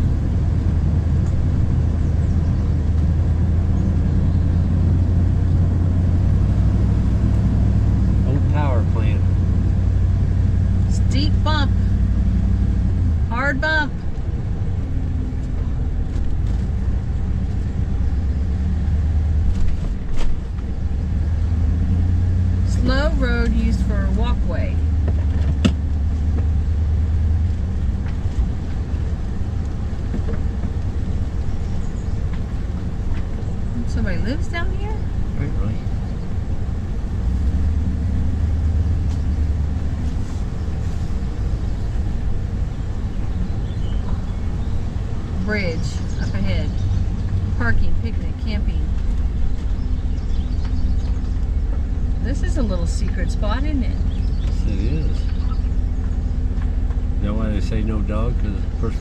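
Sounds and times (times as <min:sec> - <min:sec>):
engine and road rumble in cabin: 0:00.0 - 0:59.0.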